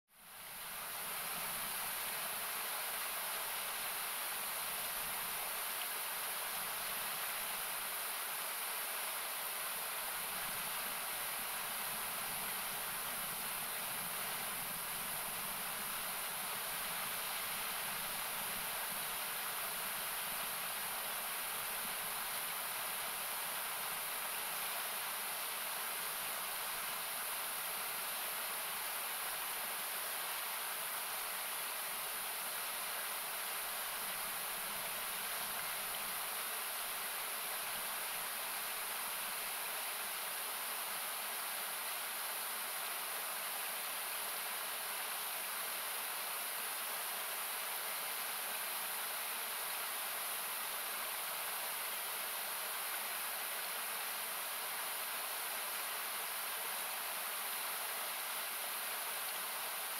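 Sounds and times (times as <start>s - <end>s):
river rushing: 0.4s - 59.9s.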